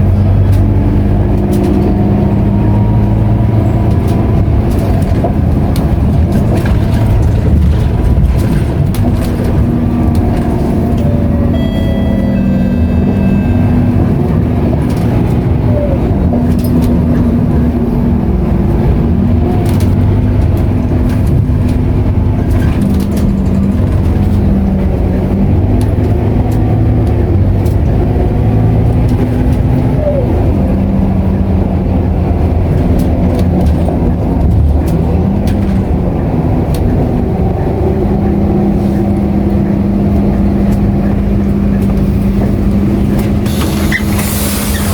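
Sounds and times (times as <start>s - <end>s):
bus diesel engine drone: 0.0s - 44.9s.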